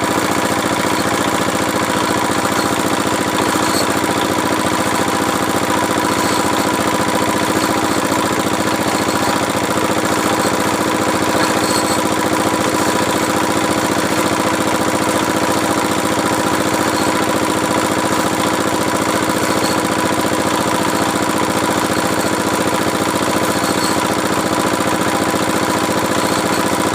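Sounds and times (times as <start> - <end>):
drilling machine engine running: 0.0 - 26.9.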